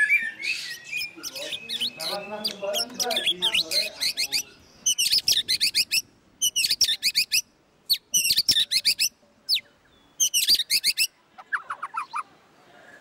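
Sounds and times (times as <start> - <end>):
bird singing whistled notes: 0.0 - 12.2.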